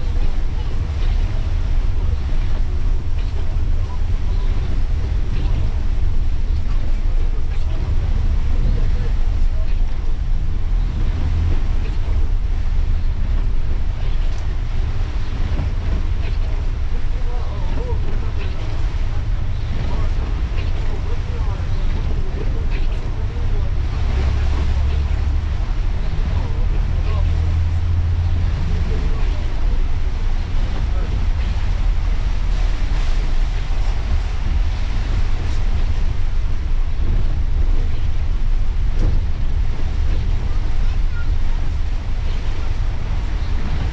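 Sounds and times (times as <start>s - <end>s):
engine and road rumble: 0.0s - 43.9s.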